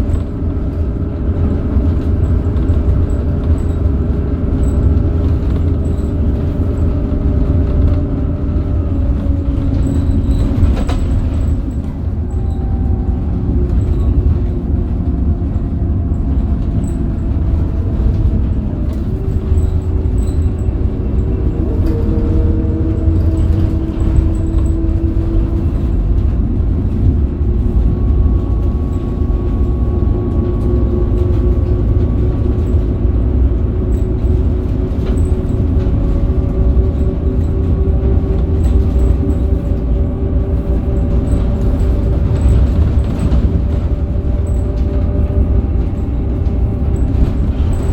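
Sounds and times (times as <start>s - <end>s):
bus engine rumble: 0.0s - 47.9s
road noise: 0.0s - 47.9s.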